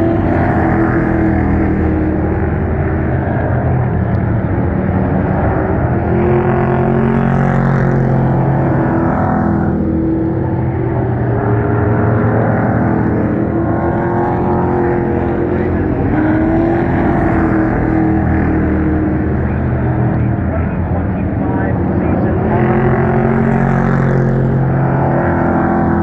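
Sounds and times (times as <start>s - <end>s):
racing truck engines passing: 0.0s - 26.0s.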